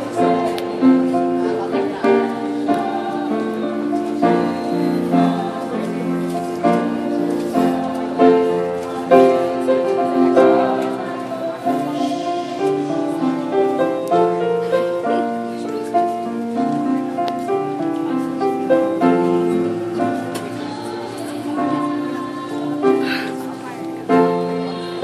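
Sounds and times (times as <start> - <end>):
group of people singing: 0.0 - 16.0, 18.4 - 25.0
grand piano chords: 0.0 - 25.0.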